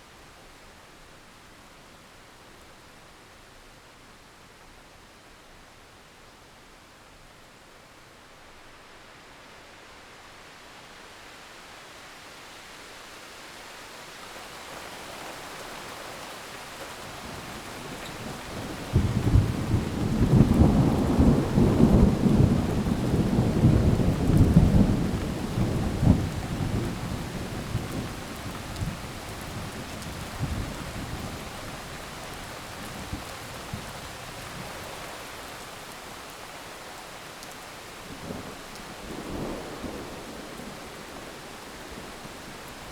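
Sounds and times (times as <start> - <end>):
heavy rain: 8.4 - 42.9.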